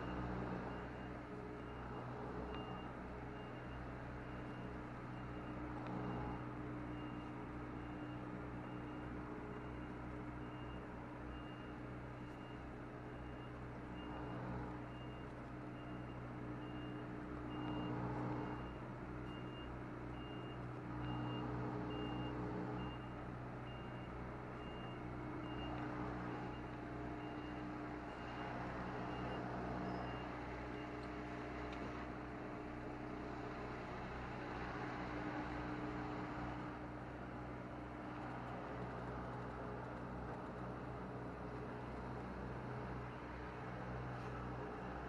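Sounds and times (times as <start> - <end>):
diesel engine running at low revs: 0.0 - 45.0.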